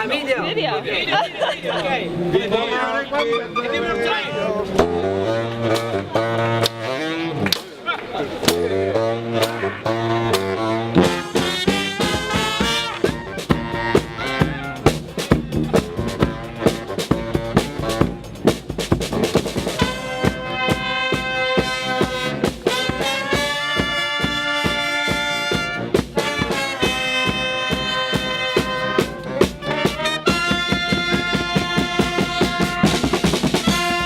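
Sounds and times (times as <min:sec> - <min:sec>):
brass instruments holding chords: 0:02.7 - 0:07.6, 0:08.4 - 0:34.0
marching drum beats: 0:04.8 - 0:07.7, 0:08.4 - 0:34.0.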